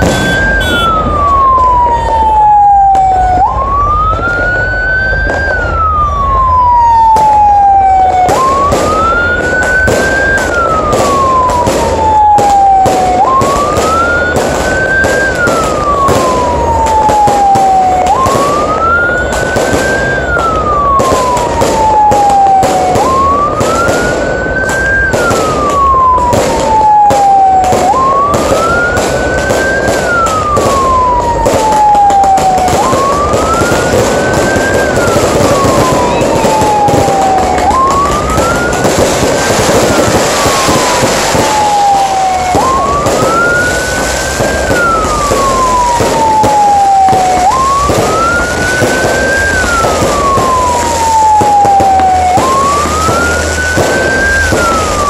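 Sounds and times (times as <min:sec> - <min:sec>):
fireworks bursting and crackling: 0:00.0 - 0:55.0
siren wailing: 0:00.0 - 0:55.0.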